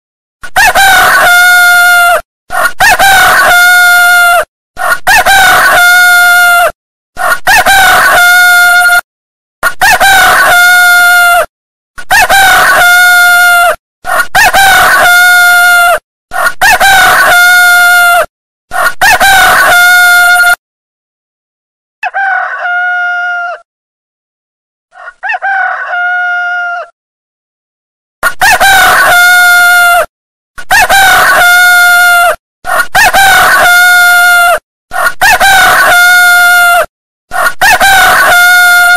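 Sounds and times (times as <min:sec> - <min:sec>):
rooster crowing: 0:00.6 - 0:09.0, 0:09.8 - 0:11.5, 0:12.1 - 0:20.6, 0:22.0 - 0:23.7, 0:24.9 - 0:27.0, 0:28.3 - 0:30.1, 0:30.7 - 0:38.9.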